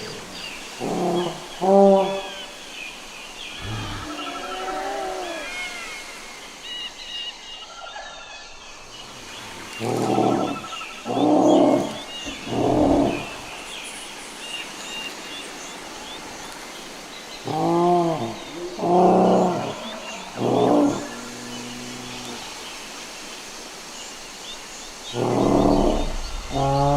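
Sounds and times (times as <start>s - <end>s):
birdsong chirping: 0.0s - 26.9s.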